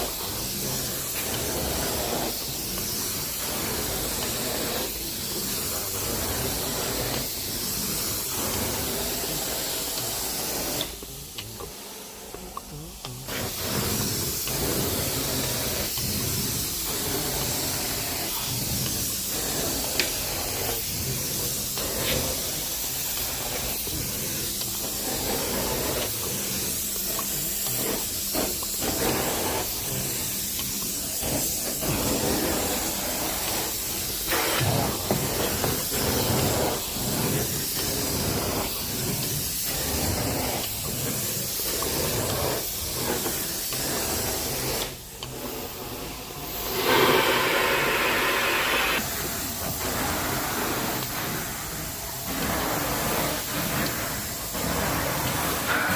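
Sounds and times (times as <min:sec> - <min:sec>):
extraction wand hissing rush: 0:00.0 - 0:55.9.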